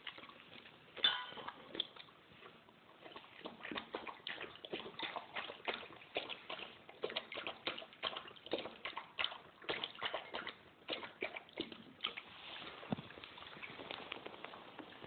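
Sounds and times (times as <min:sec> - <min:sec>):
dog lapping water from metal bowl: 0:00.0 - 0:13.6.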